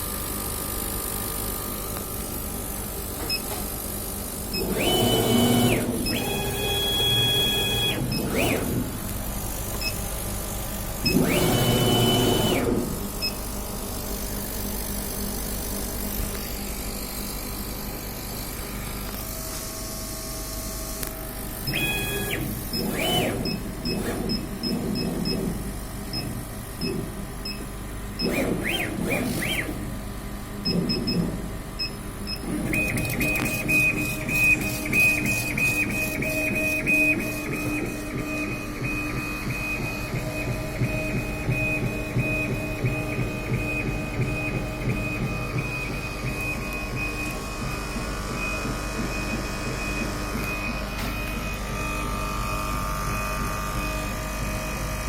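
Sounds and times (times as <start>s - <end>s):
motor whine with fast ticking: 0.0s - 55.0s
steady machine hum: 0.0s - 55.0s.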